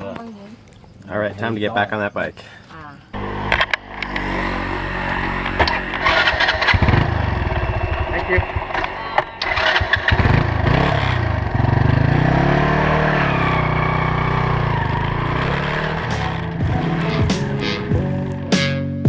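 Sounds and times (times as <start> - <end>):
motorcycle engine revving: 3.1 - 18.5.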